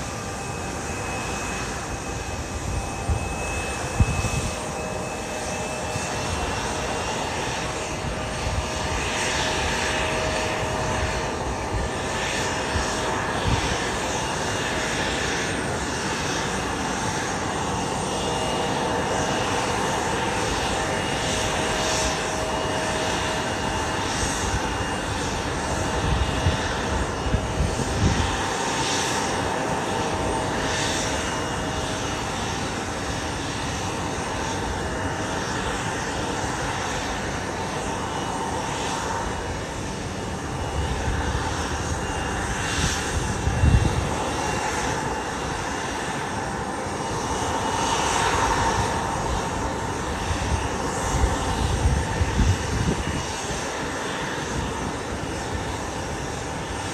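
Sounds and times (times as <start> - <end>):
jet engines idling: 0.0 - 56.9.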